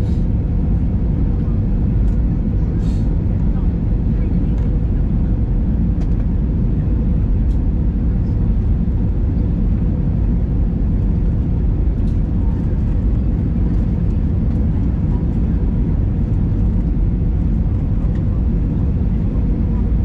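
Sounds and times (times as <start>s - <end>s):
faint constant hum: 0.0s - 20.0s
jet engine rumble: 0.0s - 20.0s.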